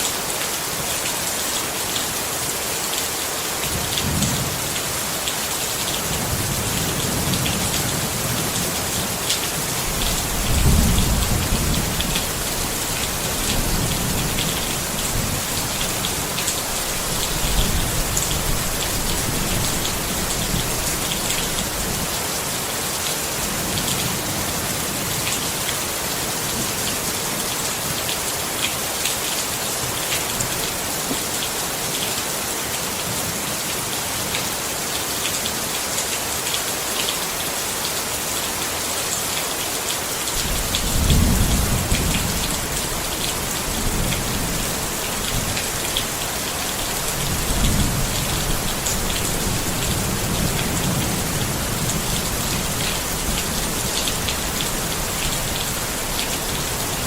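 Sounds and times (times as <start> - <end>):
rain on a tent: 0.0 - 57.0.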